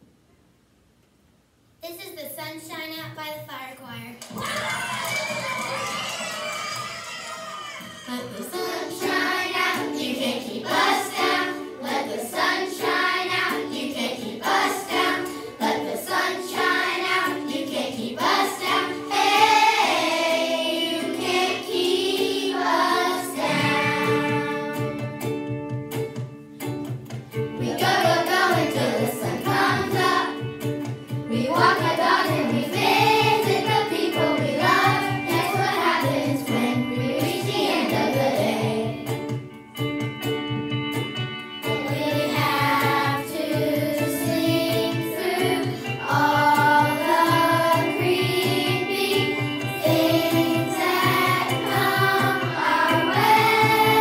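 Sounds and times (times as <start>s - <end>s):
children's choir singing: 5.0s - 25.2s, 27.5s - 30.6s, 31.3s - 39.3s, 41.7s - 54.0s
instrumental accompaniment: 8.6s - 54.0s.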